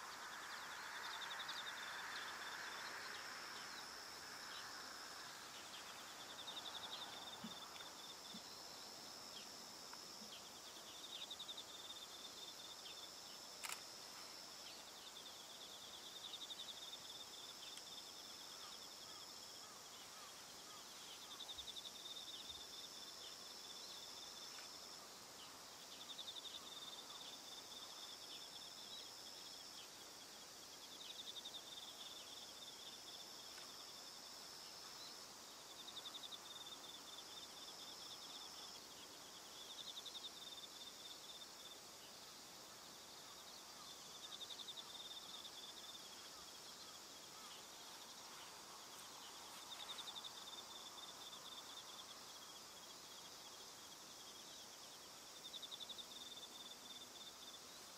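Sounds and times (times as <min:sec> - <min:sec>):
lower pulsed cricket trill: 0:00.0 - 0:57.9.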